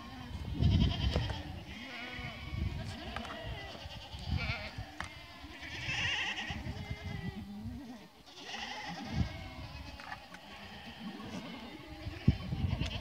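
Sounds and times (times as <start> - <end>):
goats bleating: 0.0 - 13.0.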